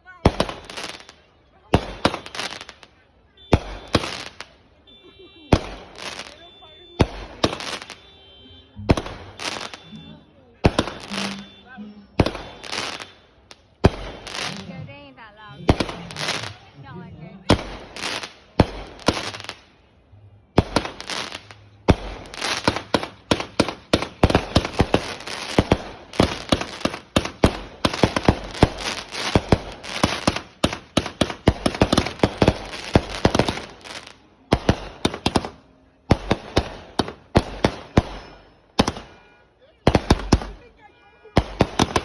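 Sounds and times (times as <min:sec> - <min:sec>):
fireworks bangs and crackling: 0:00.0 - 0:08.2, 0:08.8 - 0:19.9, 0:20.5 - 0:42.0.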